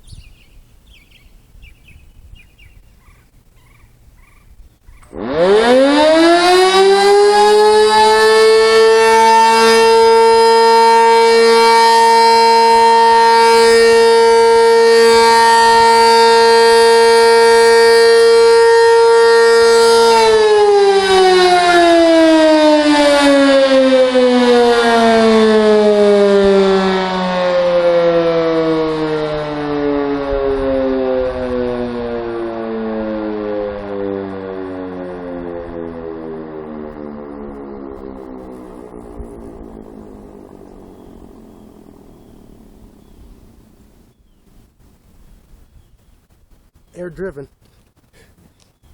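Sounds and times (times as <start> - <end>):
warning siren winding up and down: 5.0 - 45.0.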